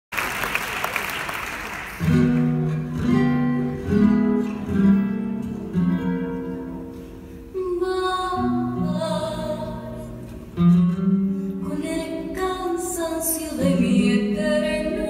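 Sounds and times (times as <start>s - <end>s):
slow acoustic guitar: 2.0s - 15.0s.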